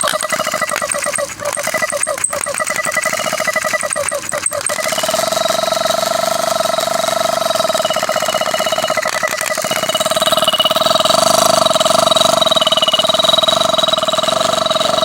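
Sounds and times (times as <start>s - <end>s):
air compressor motor stuttering: 0.0s - 15.0s
sharp clicks: 0.0s - 15.0s.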